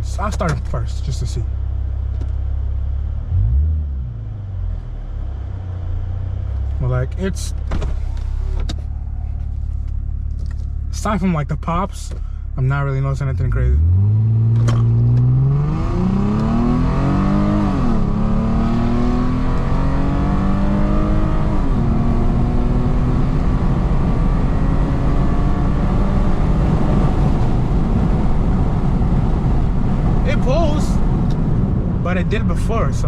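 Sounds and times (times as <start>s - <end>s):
car engine accelerating: 0.0s - 33.0s
road rumble: 0.0s - 33.0s.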